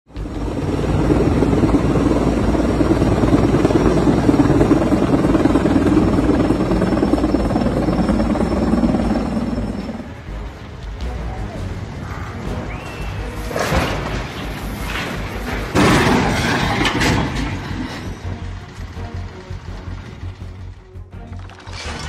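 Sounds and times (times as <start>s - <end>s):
high turbine whine: 0.1s - 21.4s
helicopter rotor beating: 0.1s - 22.0s.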